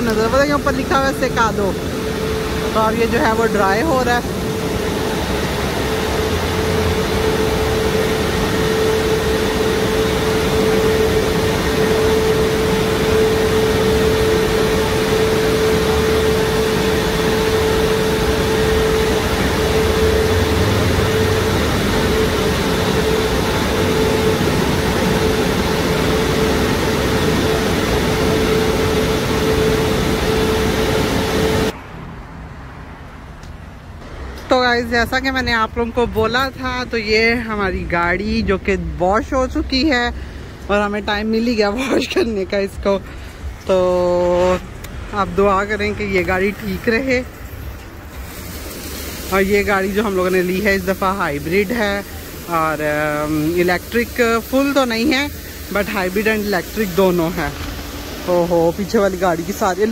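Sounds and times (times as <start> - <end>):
steady hum: 0.0 - 31.8, 33.7 - 59.9
car wash dryer blowers rushing air: 0.0 - 59.9.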